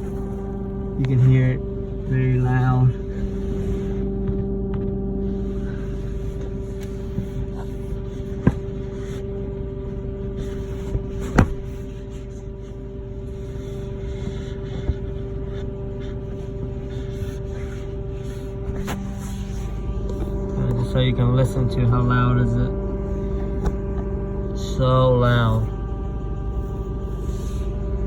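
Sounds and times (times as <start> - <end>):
loud buzzing hum: 0.0 - 28.0.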